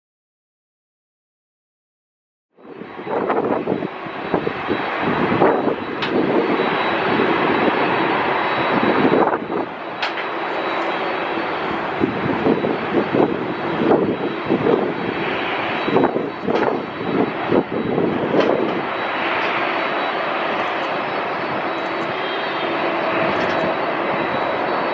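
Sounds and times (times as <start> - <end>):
jet engines roaring: 2.6 - 24.9.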